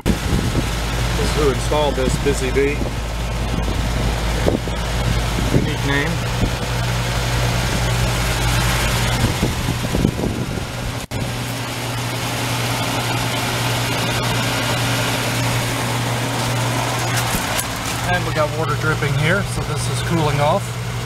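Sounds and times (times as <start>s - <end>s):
compressor hum: 0.0s - 21.0s
condenser fan rushing: 0.0s - 21.0s.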